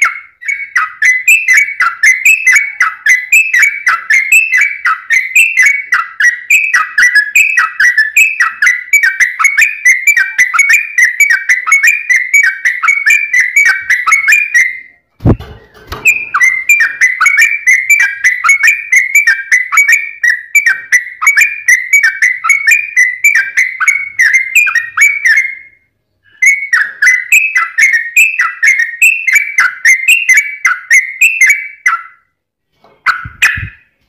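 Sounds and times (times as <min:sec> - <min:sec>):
bulbul singing whistled notes: 0:00.0 - 0:32.3, 0:33.0 - 0:33.9.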